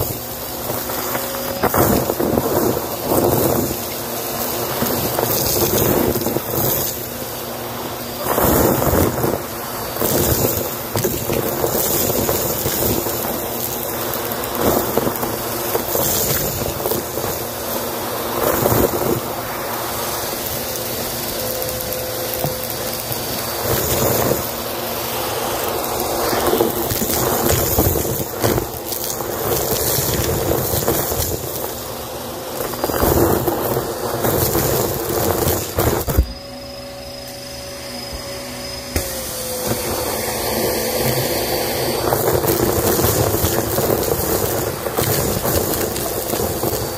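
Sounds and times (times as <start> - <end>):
debris rattling into vacuum hose: 0.0 - 36.3, 39.0 - 46.9
vacuum cleaner motor whine: 0.0 - 46.9.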